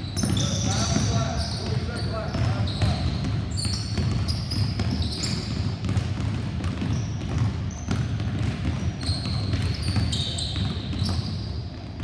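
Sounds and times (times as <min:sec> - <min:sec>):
basketballs bouncing on wooden floor: 0:00.0 - 0:12.0
sneakers squeaking: 0:00.0 - 0:12.0.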